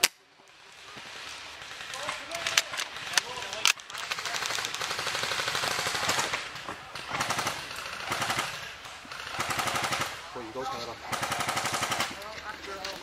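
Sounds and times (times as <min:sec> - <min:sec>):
airsoft guns firing full auto: 0:01.1 - 0:12.4.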